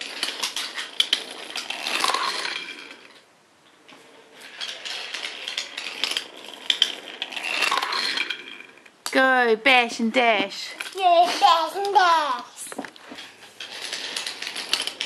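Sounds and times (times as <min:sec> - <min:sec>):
toy train wheels clattering on track: 0:00.0 - 0:03.2, 0:04.4 - 0:09.3, 0:10.5 - 0:15.0.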